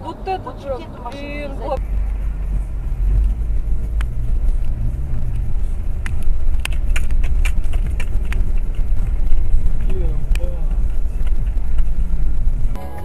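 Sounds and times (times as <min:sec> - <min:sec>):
car cabin road rumble: 0:00.0 - 0:12.8.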